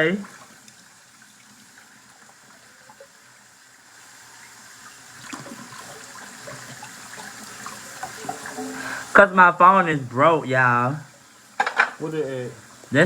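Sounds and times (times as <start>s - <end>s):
faint trickling water: 0.0s - 13.0s.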